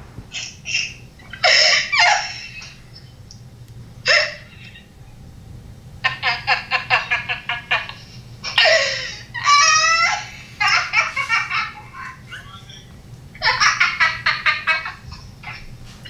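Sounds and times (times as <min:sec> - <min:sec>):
woman laughing hard: 0:00.3 - 0:03.0, 0:04.1 - 0:04.8, 0:06.0 - 0:16.0.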